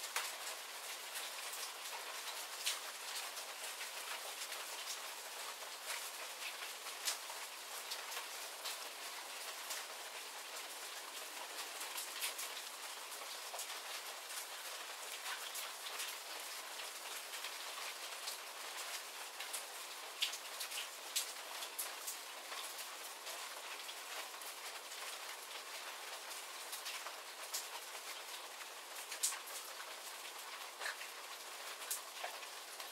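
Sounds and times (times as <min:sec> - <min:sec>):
rain hissing: 0:00.0 - 0:32.9
raindrops ticking on surfaces: 0:00.0 - 0:32.9.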